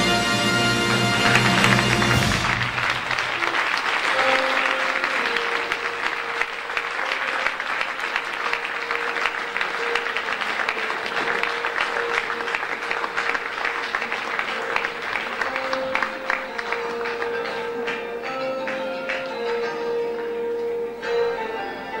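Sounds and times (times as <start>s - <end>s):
crowd applauding: 0.0s - 20.4s
faint music: 0.0s - 22.0s.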